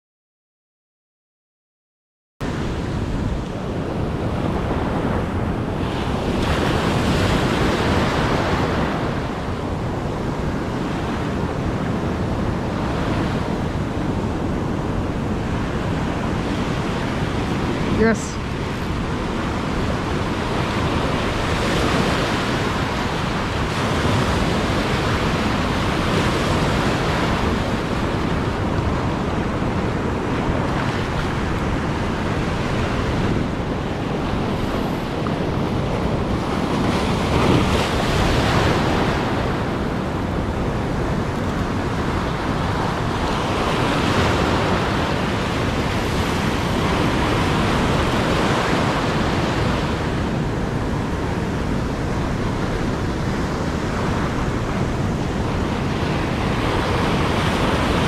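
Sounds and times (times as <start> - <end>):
ocean waves breaking on sand: 2.4 - 58.0.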